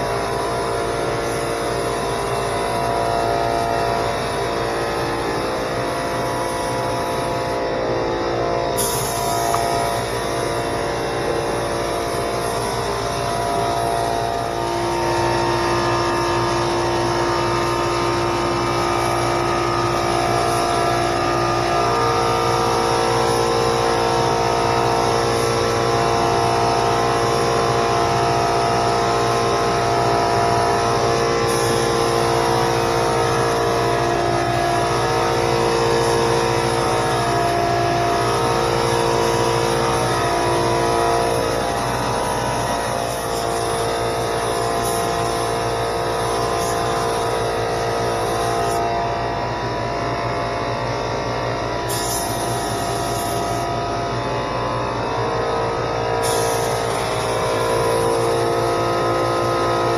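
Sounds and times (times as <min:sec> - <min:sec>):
spray gun air hiss: 0:00.0 - 0:50.1, 0:50.8 - 0:55.0, 0:55.8 - 0:59.9
air compressor motor drone: 0:00.0 - 0:59.9.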